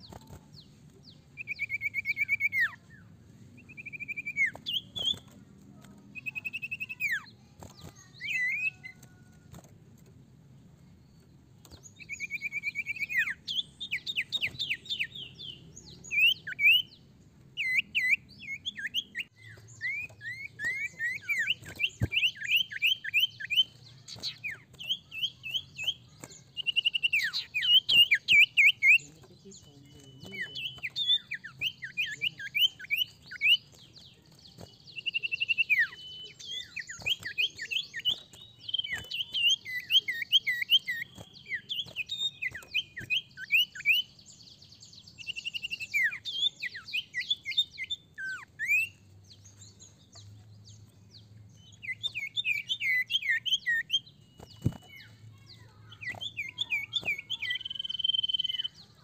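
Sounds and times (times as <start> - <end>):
bird singing whistled notes: 0.0 - 5.3, 6.2 - 9.3, 11.1 - 17.0, 17.6 - 59.0.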